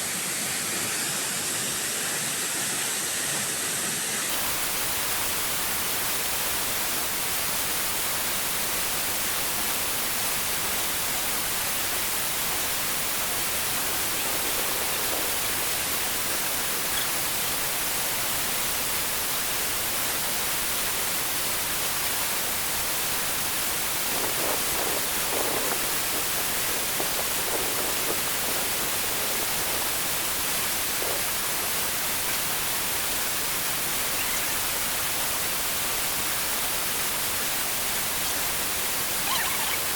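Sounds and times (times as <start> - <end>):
rain and waterfall rushing: 0.0 - 39.9.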